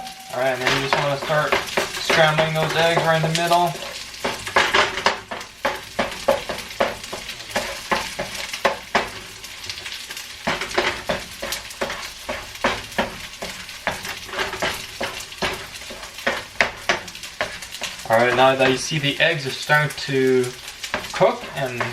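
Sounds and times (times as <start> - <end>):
food sizzling in a wok: 0.0 - 21.9
utensil scraping a pan: 0.0 - 21.9.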